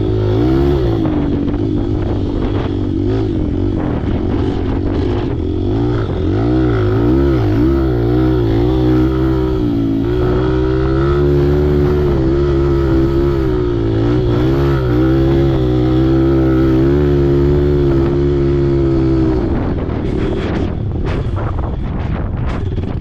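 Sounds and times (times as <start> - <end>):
off-road vehicle engine running: 0.0 - 23.0.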